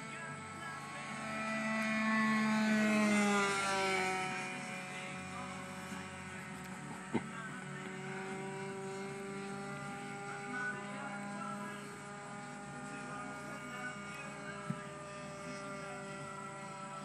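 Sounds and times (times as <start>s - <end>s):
model airplane motor buzzing: 0.0s - 17.0s.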